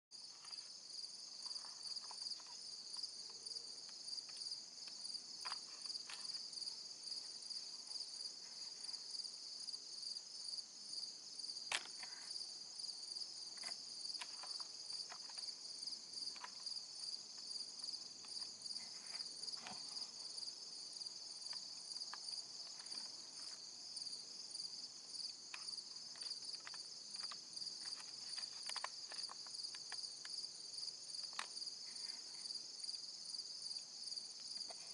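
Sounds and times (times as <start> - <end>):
insects trilling: 0.2 - 34.9.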